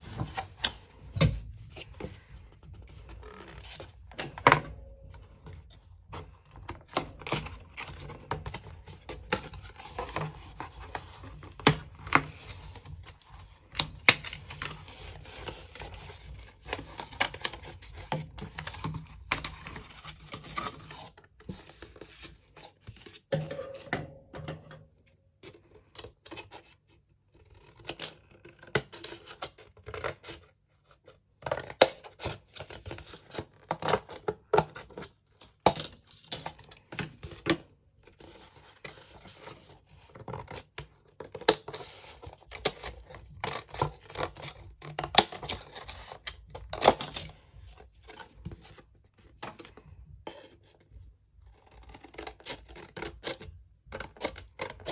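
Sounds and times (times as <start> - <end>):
cardboard and paper handled: 0.0 - 24.6, 25.4 - 54.9.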